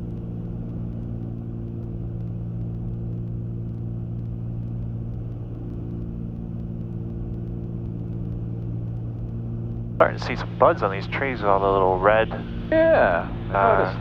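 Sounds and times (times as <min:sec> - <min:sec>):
aircraft engines droning: 0:00.2 - 0:14.0.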